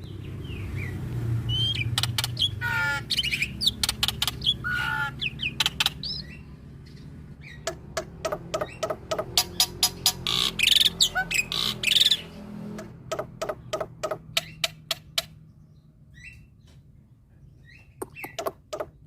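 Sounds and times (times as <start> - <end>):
starling singing: 0.0 - 15.4, 17.6 - 19.0.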